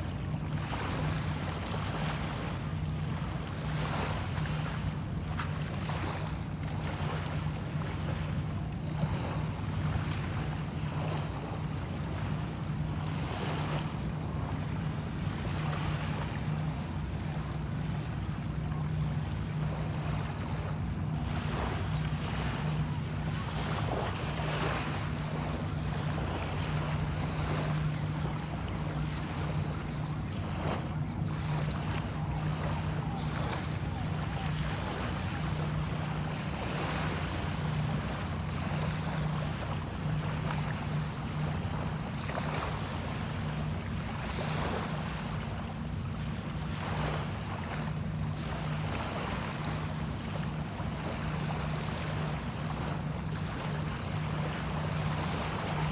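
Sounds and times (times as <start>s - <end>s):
low engine hum: 0.0s - 55.9s
small waves washing: 0.0s - 55.9s.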